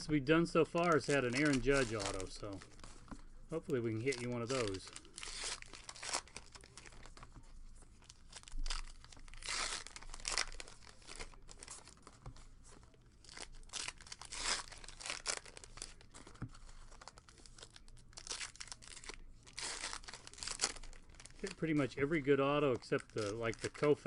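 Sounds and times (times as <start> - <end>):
card pack wrappers tearing: 0.0 - 3.0, 3.6 - 12.2, 12.8 - 24.0.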